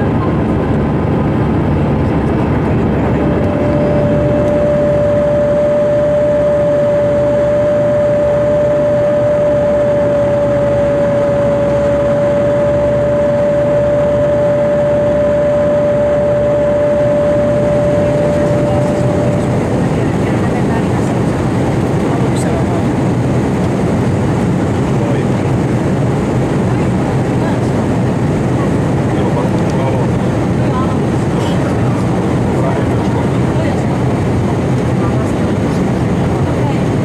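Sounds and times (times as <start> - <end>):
airplane cabin engine noise: 0.0 - 37.0
steady whine: 0.0 - 37.0.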